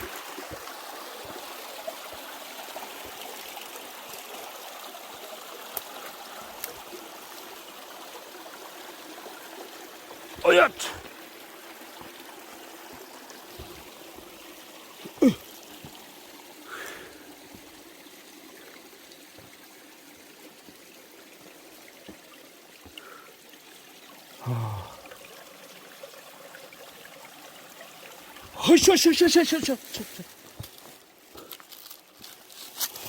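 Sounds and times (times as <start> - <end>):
stream trickling: 0.0 - 33.0.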